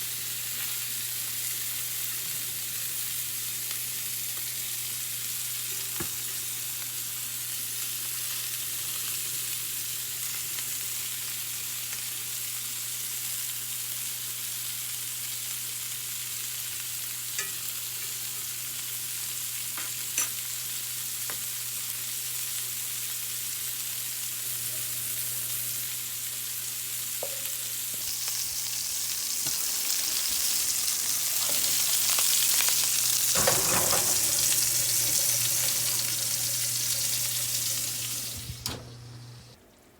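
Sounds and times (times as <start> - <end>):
food sizzling in a hot pan: 0.0 - 39.5.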